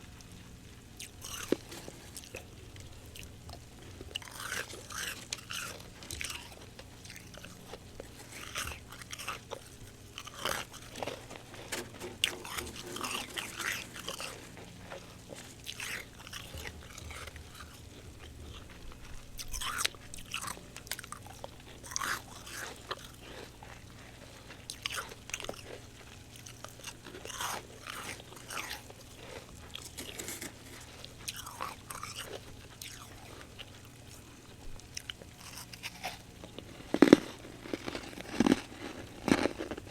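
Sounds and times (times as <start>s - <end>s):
crunchy frost chewing: 0.0s - 39.9s
faint low hum: 0.0s - 39.9s.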